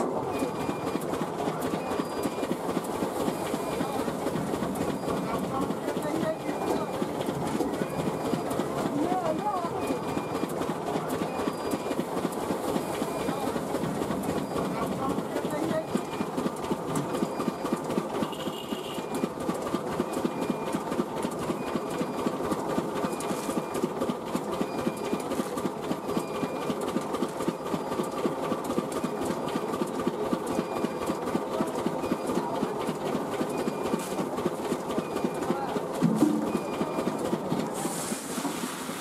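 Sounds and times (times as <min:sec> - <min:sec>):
machine mechanical clatter: 0:00.0 - 0:37.8.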